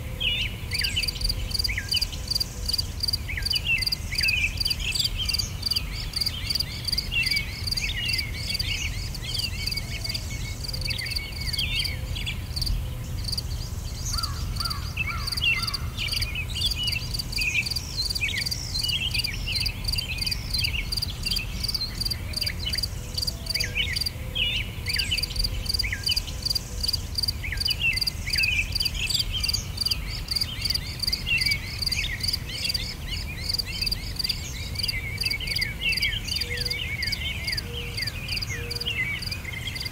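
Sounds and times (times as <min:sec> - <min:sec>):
crickets chirping: 0:00.7 - 0:24.2, 0:24.8 - 0:39.9.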